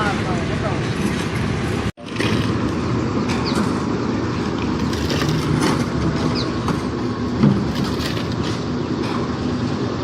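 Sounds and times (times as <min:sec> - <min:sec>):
concrete mixer running: 0:01.8 - 0:10.0.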